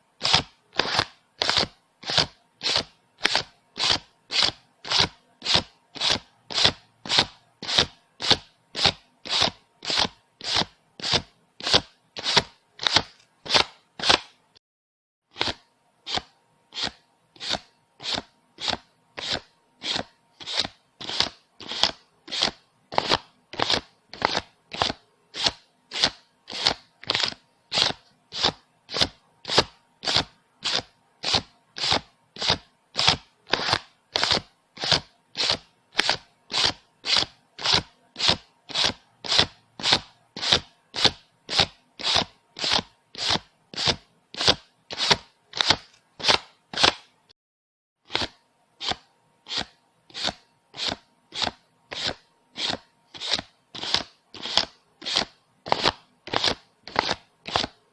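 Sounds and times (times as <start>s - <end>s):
banknotes being counted by hand: 0.2s - 14.4s, 15.3s - 47.2s, 48.0s - 57.9s.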